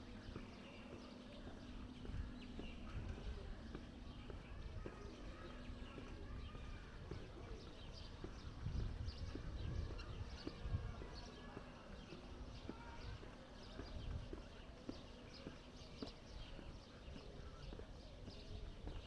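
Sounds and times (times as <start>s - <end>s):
footsteps on pavement: 0.0s - 19.0s
small birds chirping: 0.0s - 19.0s.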